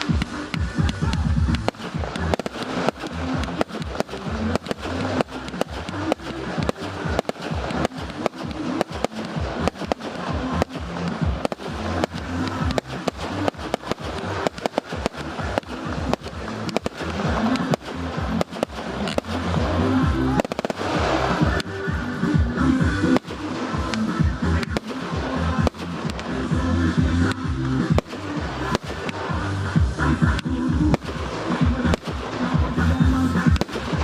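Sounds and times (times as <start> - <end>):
fireworks bangs: 0.0 - 34.0
music playing: 0.0 - 34.0.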